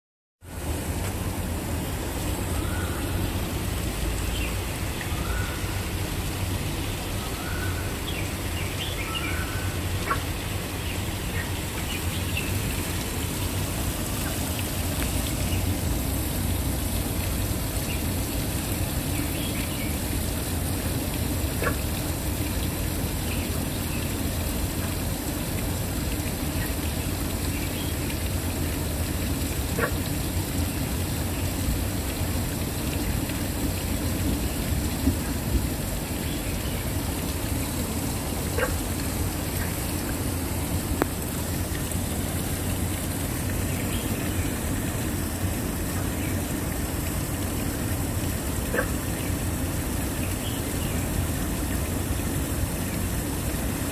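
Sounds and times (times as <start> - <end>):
waterfall rushing: 0.5 - 53.9.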